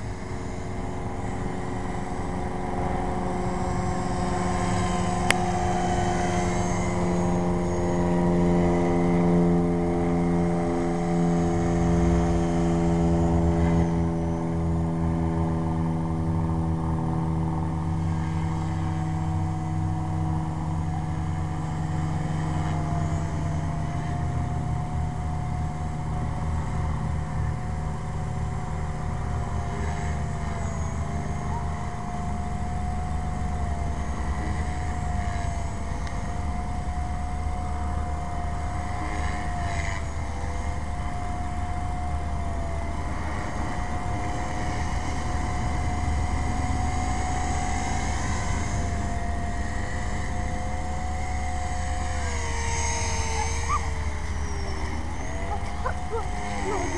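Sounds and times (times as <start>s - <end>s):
rc helicopter rotor whine: 0.0s - 56.9s.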